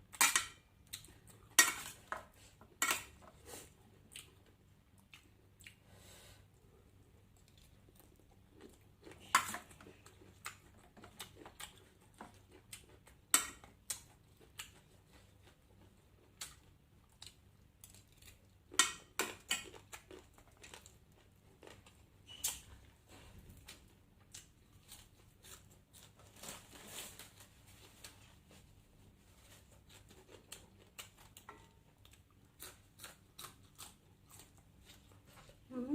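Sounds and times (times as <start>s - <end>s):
person chewing and crunching: 0.4s - 5.9s, 7.1s - 22.1s, 23.6s - 26.6s, 29.4s - 35.6s.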